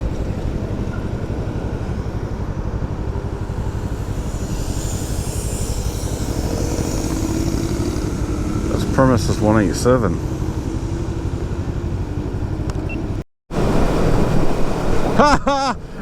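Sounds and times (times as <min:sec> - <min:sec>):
motorcycle engine throbbing: 0:00.0 - 0:13.2
road and wind hiss: 0:00.0 - 0:16.0.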